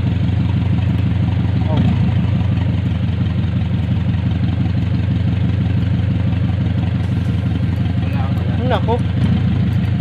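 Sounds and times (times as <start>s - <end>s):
car engine idling and misfiring: 0.0s - 10.0s.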